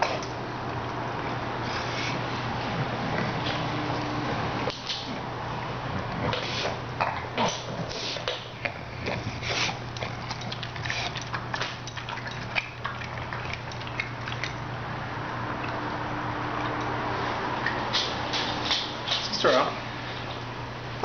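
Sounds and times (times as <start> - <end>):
dog chewing meat: 0.0 - 19.2.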